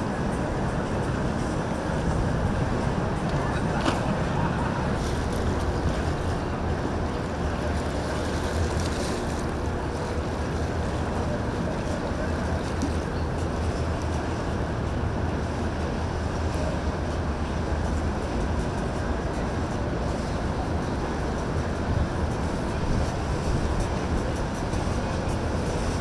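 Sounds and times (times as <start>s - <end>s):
motorboat engine humming: 0.0s - 26.0s
water wash: 0.0s - 26.0s
wind noise on microphone: 0.0s - 26.0s.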